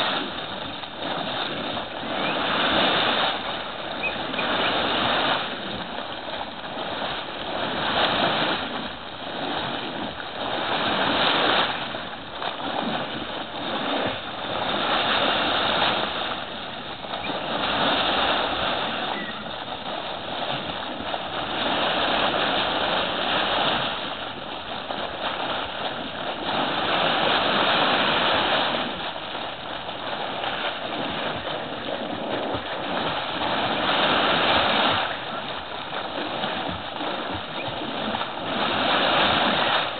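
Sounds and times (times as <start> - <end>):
water gushing and bubbling: 0.0 - 39.9.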